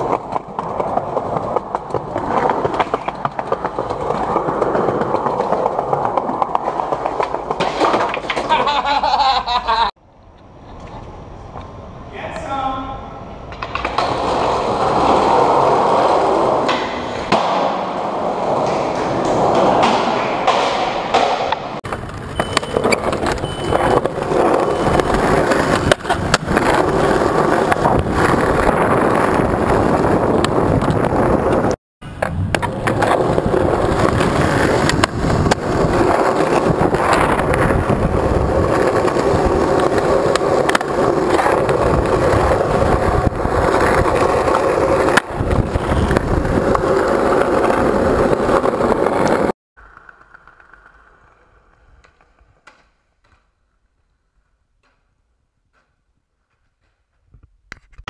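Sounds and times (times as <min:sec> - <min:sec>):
skateboard clacks: 0:00.0 - 0:09.9, 0:13.4 - 0:58.0
skateboard wheels rolling: 0:00.0 - 0:12.4, 0:13.1 - 0:58.0.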